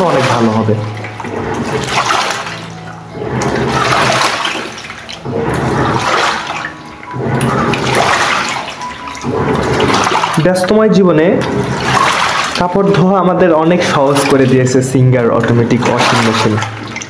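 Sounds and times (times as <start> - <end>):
washing machine churning water: 0.0 - 17.0.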